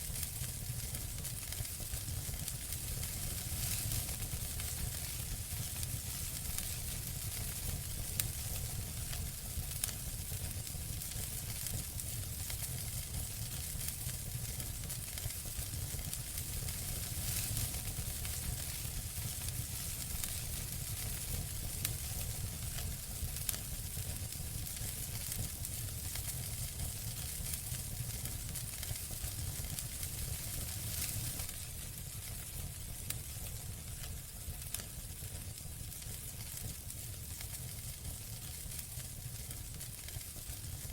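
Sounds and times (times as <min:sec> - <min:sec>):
campfire crackling and hissing: 0:00.0 - 0:40.9.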